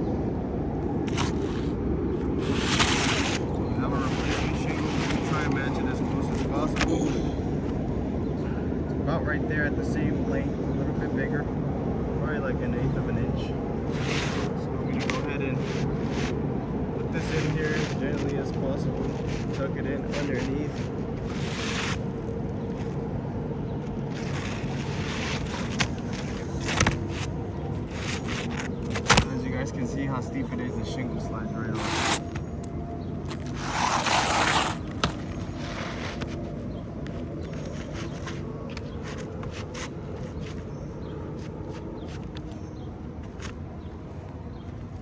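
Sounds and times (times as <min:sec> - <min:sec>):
steady outdoor rumble: 0:00.0 - 0:45.0
shingle scraping: 0:00.8 - 0:08.1, 0:13.8 - 0:43.8.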